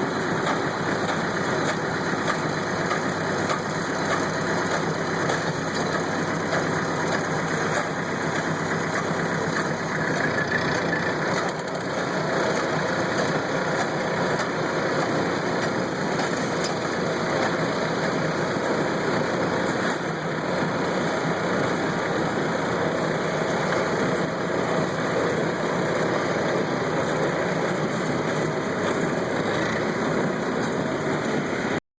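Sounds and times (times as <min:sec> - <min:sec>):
hay baler machinery clattering: 0:00.0 - 0:31.8
tractor engine running: 0:00.0 - 0:31.8.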